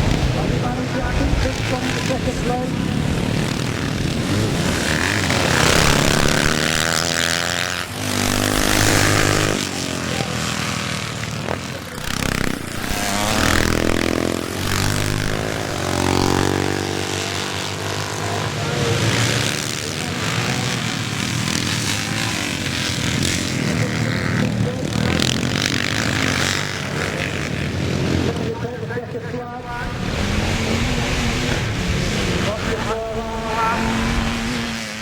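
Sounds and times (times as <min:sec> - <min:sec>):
motocross bikes revving: 0:00.0 - 0:35.0.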